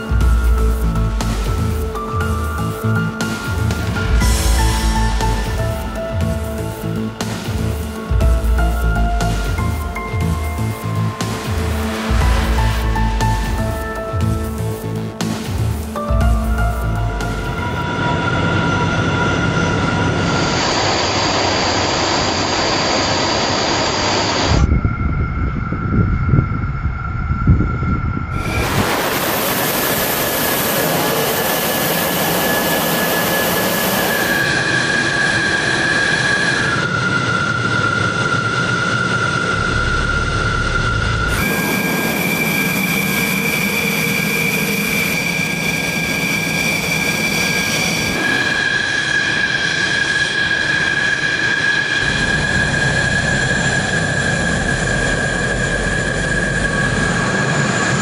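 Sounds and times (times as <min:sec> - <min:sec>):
jet engines idling: 0:00.0 - 0:24.6, 0:25.5 - 0:58.0.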